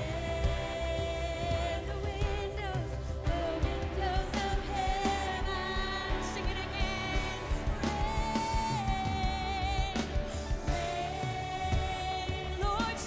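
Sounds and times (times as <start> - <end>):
drum kit beat: 0.0 - 13.0
keyboard: 0.0 - 13.0
woman singing: 0.0 - 13.0.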